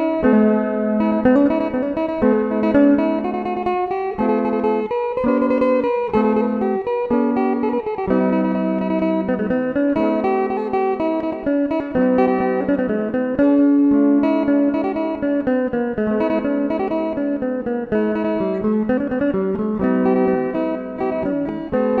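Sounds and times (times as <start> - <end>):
plucked lute melody: 0.0 - 22.0.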